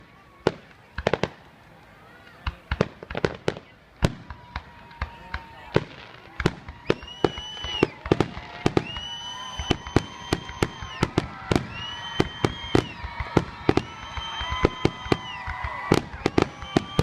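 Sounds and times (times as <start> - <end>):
fireworks bangs: 0.0 - 17.0
firework whistles: 3.2 - 17.0.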